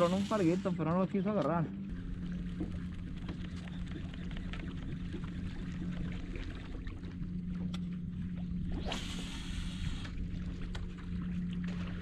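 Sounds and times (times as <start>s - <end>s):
electric trolling motor humming: 0.0s - 12.0s.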